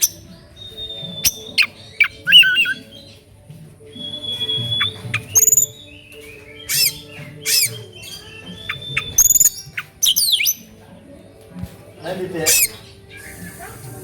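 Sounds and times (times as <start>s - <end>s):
harsh squawky bird calls: 0.0s - 3.2s, 4.0s - 10.8s, 12.2s - 14.0s
bird singing: 0.0s - 11.2s, 12.0s - 13.7s.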